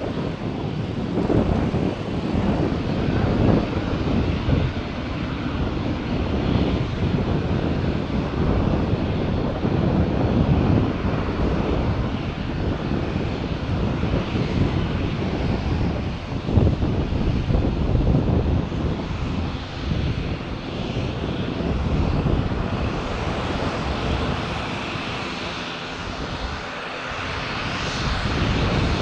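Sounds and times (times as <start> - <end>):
aircraft engines passing: 0.0 - 29.0.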